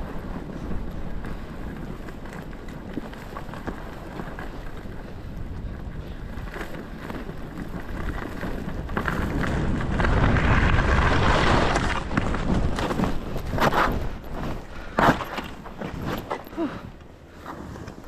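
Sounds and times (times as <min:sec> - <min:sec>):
wind rushing over microphone: 0:00.0 - 0:16.9.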